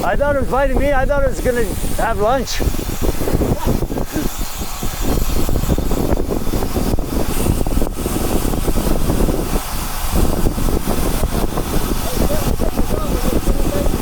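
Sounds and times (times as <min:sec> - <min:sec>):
bicycle road noise: 0:00.0 - 0:14.0
wind rush while cycling: 0:00.0 - 0:14.0.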